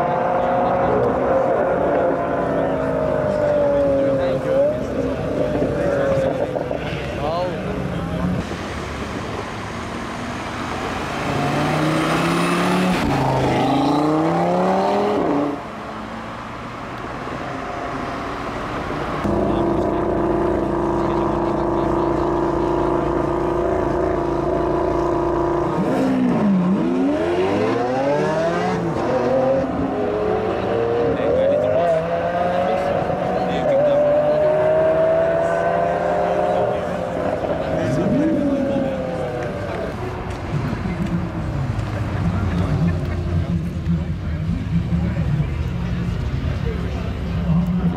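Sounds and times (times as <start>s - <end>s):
car engine accelerating hard: 0.0s - 47.9s
second car engine revving: 7.7s - 47.9s.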